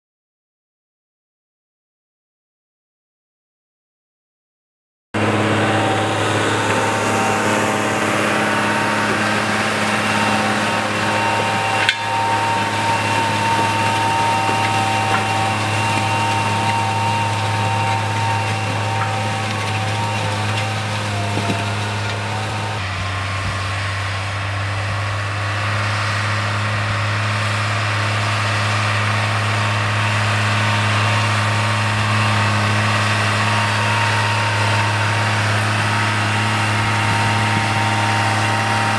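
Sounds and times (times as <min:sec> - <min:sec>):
tractor diesel engine running: 0:05.2 - 0:38.9.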